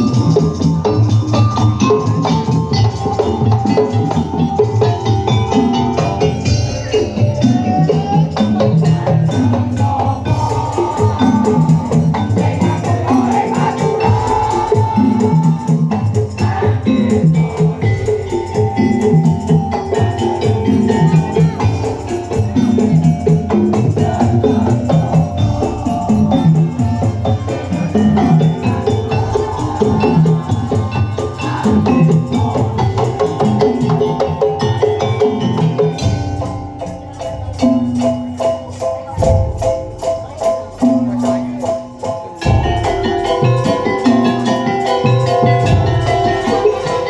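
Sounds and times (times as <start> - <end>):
drums and pitched percussion: 0.0 - 47.0.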